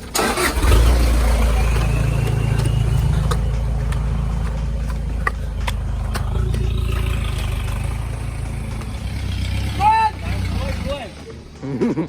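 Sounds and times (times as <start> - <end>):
off-road vehicle engine rumbling: 0.0 - 11.6.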